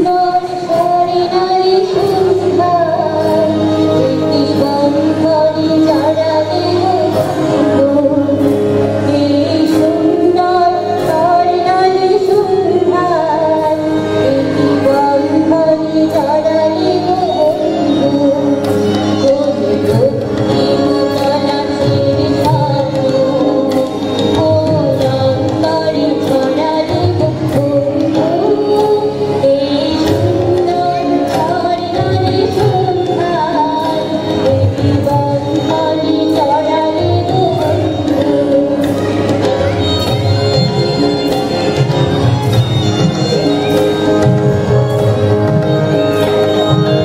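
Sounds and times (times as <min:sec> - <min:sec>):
electric guitar: 0:00.0 - 0:47.0
keyboard: 0:00.0 - 0:47.0
tabla beat: 0:00.0 - 0:47.0
violin: 0:00.0 - 0:47.0
woman singing into microphone: 0:00.0 - 0:47.0.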